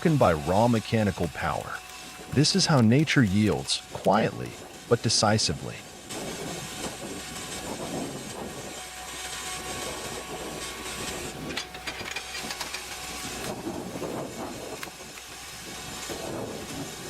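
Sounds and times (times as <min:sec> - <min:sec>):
machine running with hiss: 0:00.0 - 0:17.0.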